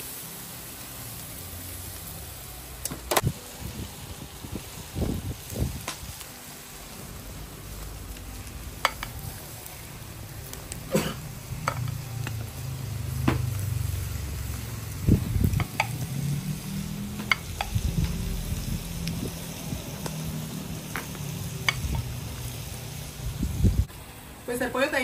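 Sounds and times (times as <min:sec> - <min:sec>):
ribs sizzling on a grill: 0:00.0 - 0:25.0.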